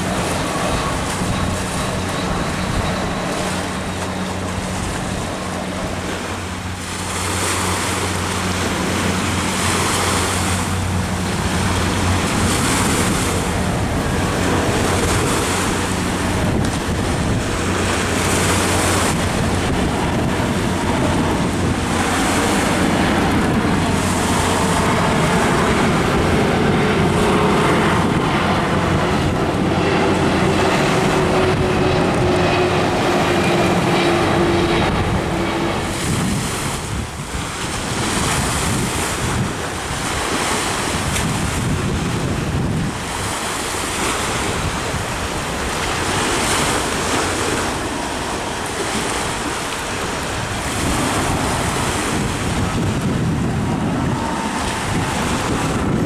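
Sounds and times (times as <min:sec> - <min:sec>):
distant airliner: 0:00.0 - 0:56.0
jet engines roaring: 0:00.0 - 0:56.0
rushing wind: 0:00.0 - 0:56.0.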